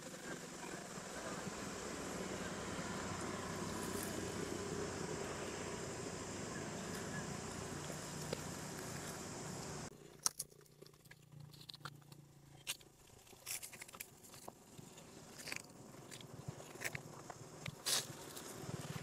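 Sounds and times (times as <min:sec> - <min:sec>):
steady hum: 0:00.0 - 0:19.0
dry leaves crackling: 0:02.1 - 0:19.0.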